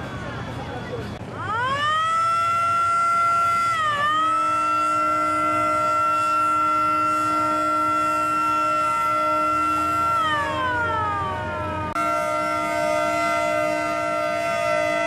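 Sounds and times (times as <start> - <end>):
deep boat horn blast: 2.2 - 15.0
high boat horn blast: 2.9 - 15.0.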